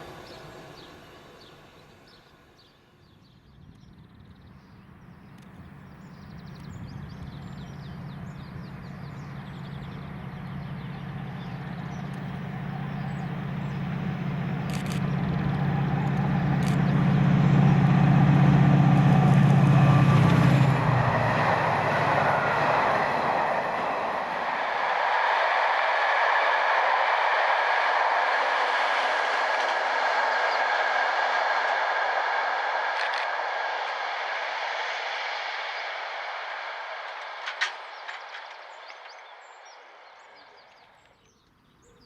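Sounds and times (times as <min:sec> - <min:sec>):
train rumbling and clattering on rails: 0:00.0 - 0:02.7, 0:03.4 - 0:42.0
diesel locomotive engine hum: 0:00.0 - 0:42.0.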